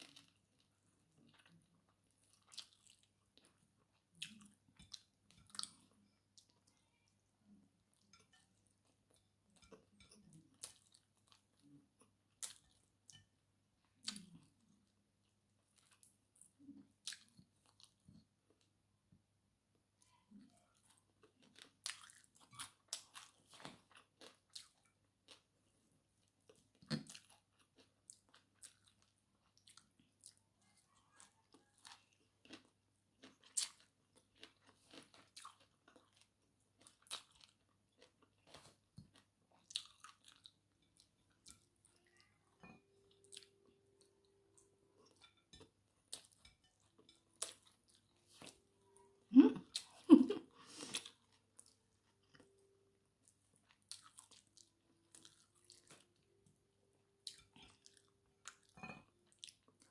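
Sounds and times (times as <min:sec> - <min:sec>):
mouth chewing food: 0:00.0 - 0:18.7, 0:20.0 - 0:59.9.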